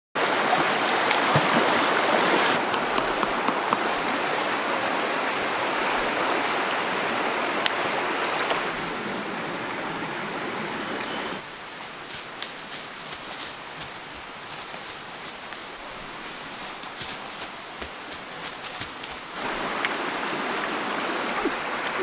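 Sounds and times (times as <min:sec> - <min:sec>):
stream rushing over stones: 0:00.2 - 0:12.0, 0:12.8 - 0:22.0.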